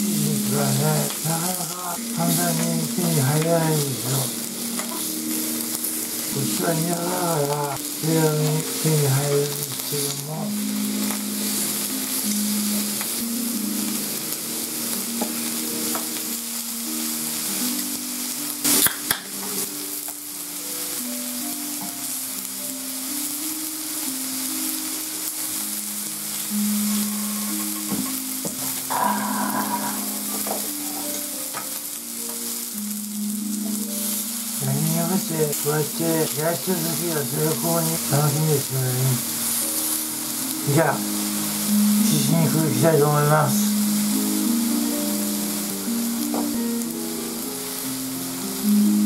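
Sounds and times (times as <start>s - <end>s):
meat sizzling on a grill plate: 0.0s - 49.0s.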